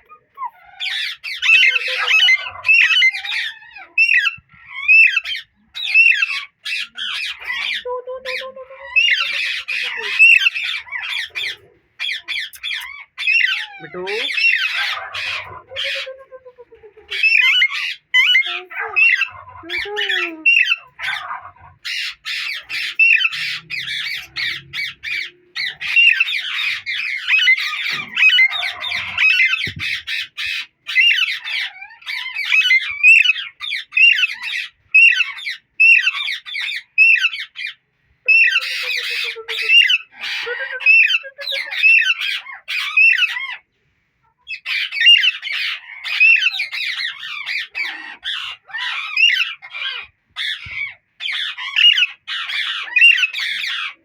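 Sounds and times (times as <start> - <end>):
parakeets squawking: 0.0 - 43.7, 44.4 - 54.0.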